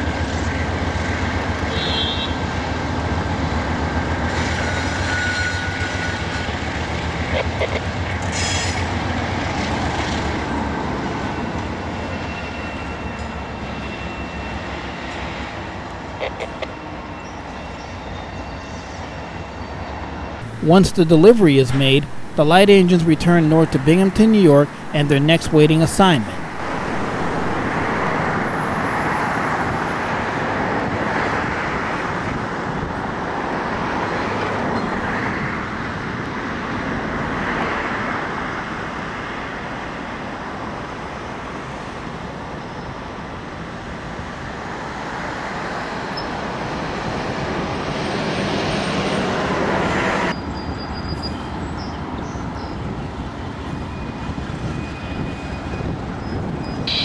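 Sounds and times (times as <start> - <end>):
diesel locomotive engines: 0.0 - 38.0, 38.8 - 57.0
outdoor background noise: 0.0 - 57.0.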